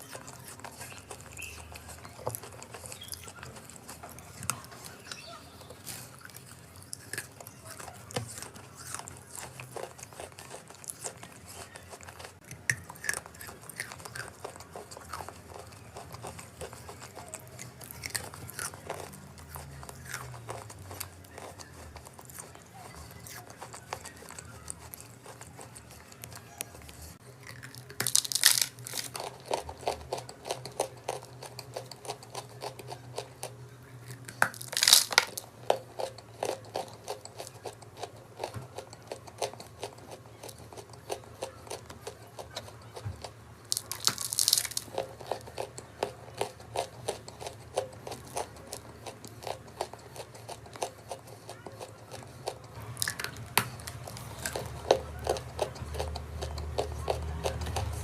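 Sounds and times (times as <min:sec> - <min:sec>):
chalk being chewed: 0:00.0 - 0:58.0.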